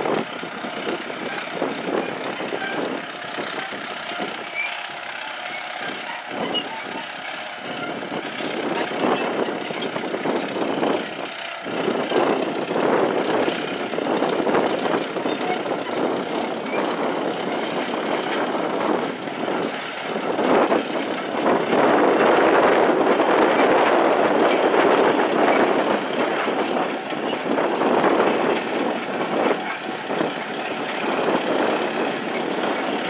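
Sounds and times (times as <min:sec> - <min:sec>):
bulldozer engine and tracks: 0:00.0 - 0:33.0.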